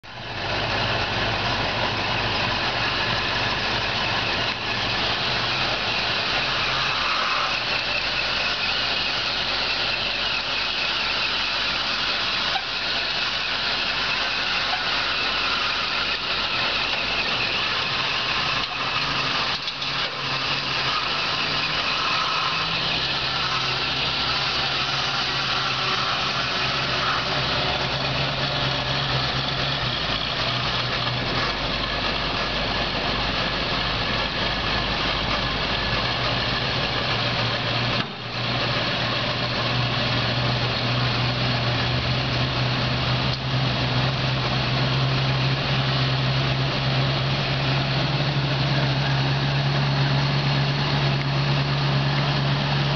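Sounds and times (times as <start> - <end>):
car engine running at low speed: 0.0 - 52.9
constant hiss: 0.1 - 52.9.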